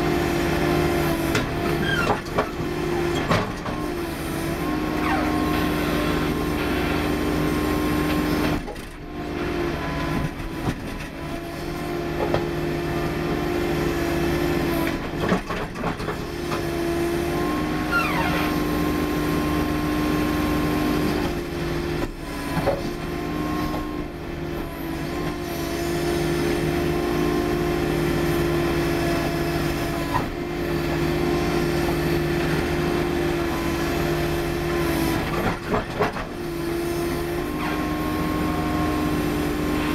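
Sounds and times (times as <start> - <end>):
skid steer engine: 0.0 - 39.9.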